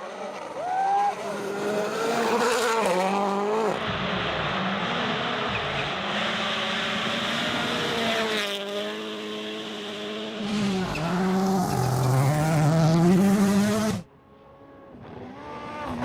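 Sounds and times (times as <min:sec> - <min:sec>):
rally car engine running hard: 0:00.0 - 0:14.0.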